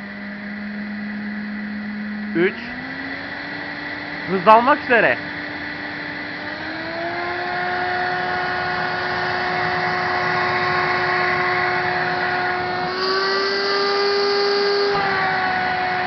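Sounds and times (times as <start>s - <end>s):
vacuum cleaner motor whine: 0.0s - 16.0s.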